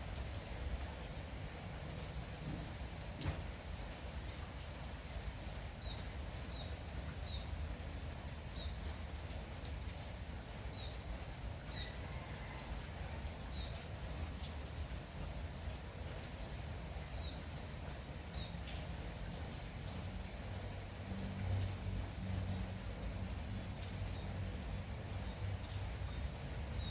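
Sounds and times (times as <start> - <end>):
light rain: 0.0 - 26.9.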